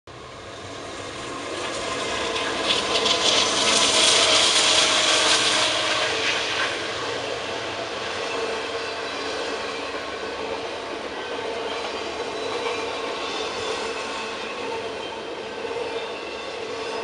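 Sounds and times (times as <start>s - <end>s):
diesel locomotives passing: 0.1s - 17.0s.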